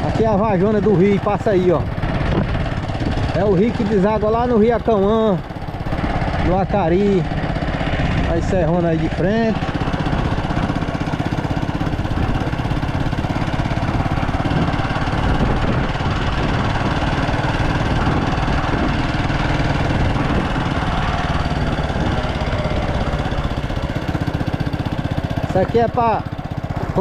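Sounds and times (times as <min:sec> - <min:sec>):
vehicle engine droning: 0:00.0 - 0:27.0.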